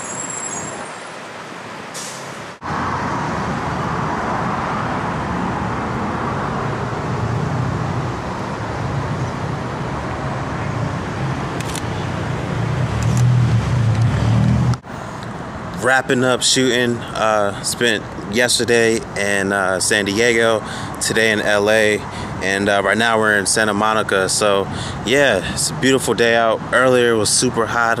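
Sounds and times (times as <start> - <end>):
city traffic noise: 0.0 - 28.0.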